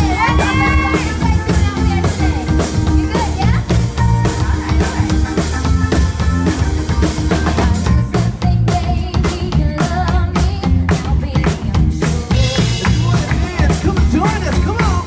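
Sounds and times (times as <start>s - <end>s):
drum kit beat: 0.0s - 15.0s
electric guitar: 0.0s - 15.0s
keyboards: 0.0s - 15.0s.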